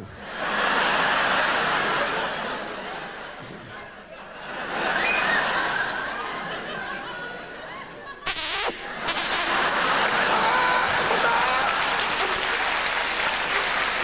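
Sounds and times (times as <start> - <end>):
studio audience laughing: 0.2 - 14.0.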